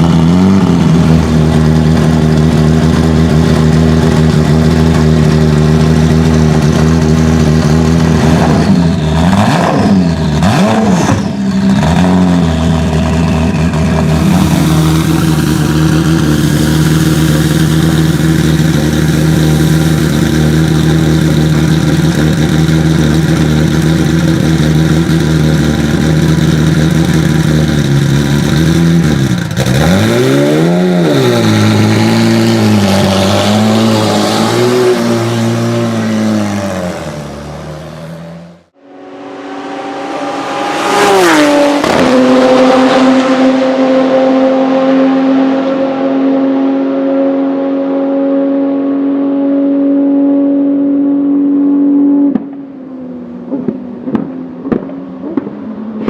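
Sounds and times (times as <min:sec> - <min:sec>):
racing car engine revving: 0:00.0 - 0:52.7.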